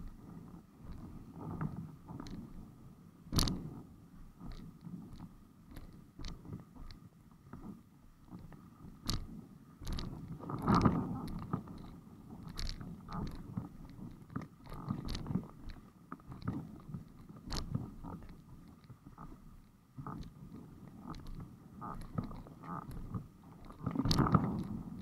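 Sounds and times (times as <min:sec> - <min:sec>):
windsurf board knocks and creaks: 0:00.0 - 0:25.0.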